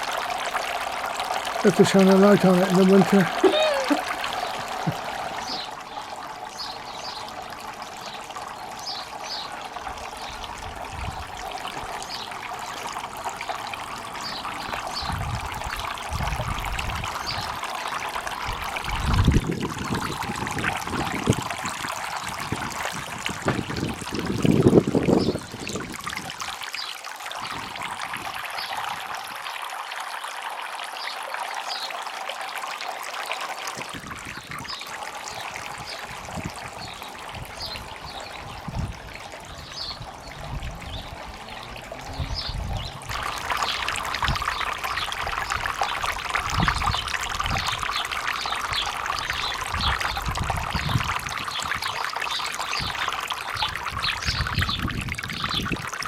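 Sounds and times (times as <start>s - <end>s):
water trickling down waterfall: 0.0s - 56.0s.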